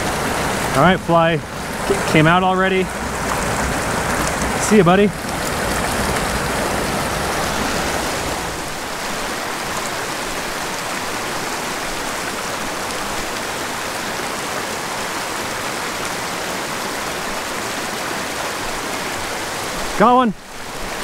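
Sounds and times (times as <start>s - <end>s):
creek rushing over rocks: 0.0s - 21.0s.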